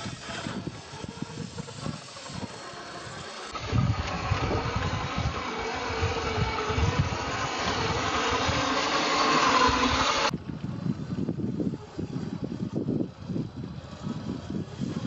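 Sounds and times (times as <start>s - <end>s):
toy car motor whining: 0.0s - 15.0s
wheels crunching on rough ground: 0.0s - 15.0s.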